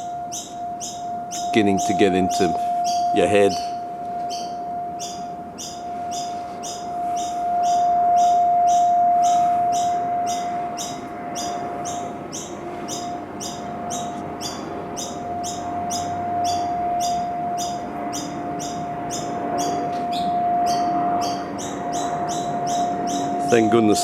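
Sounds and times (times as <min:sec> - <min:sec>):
rapid high chirps: 0:00.0 - 0:24.0
steady high-pitched hum: 0:00.0 - 0:24.0.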